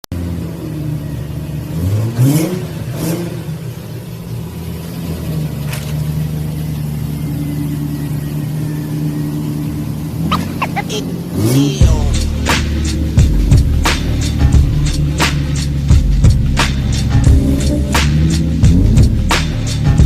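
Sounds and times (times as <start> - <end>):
engine throttle blips: 0.0 - 20.0
car engine idling: 0.1 - 20.0.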